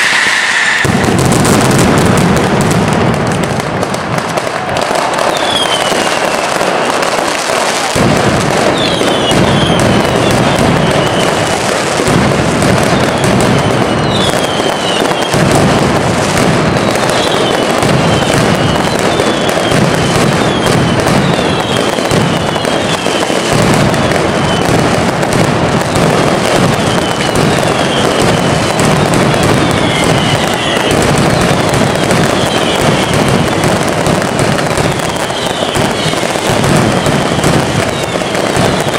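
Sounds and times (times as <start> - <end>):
deep firework bangs: 0.0 - 38.9
firecrackers crackling: 0.0 - 38.9
whistling fireworks: 0.0 - 38.9.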